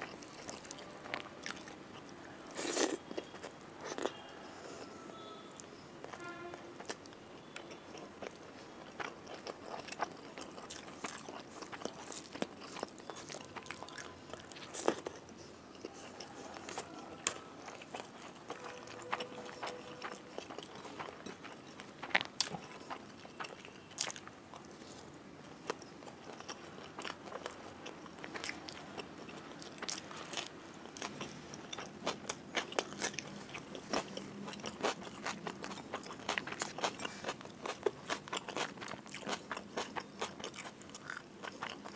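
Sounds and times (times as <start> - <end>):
chewing and crunching: 0.0 - 6.2, 6.8 - 41.9.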